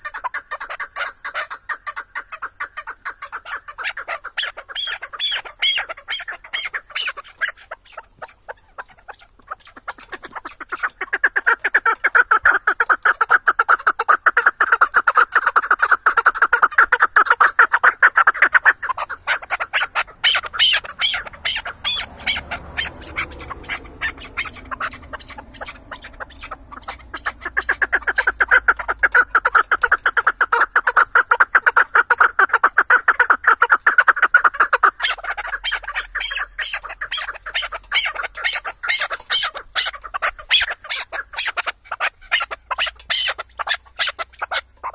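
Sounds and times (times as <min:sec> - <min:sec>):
partridge clucking calls: 0:00.0 - 0:44.9.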